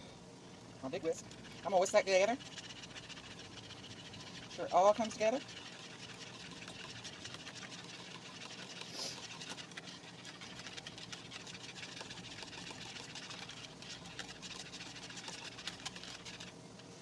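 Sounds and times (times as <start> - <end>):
whisk clicking against bowl: 1.0 - 16.6.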